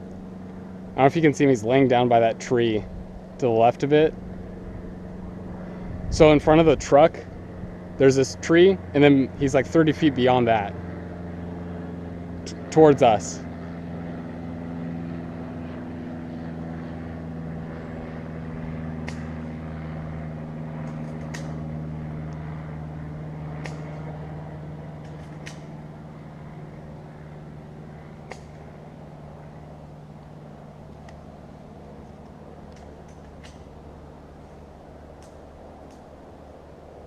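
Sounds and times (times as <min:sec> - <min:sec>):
engine hum: 0:00.0 - 0:37.0.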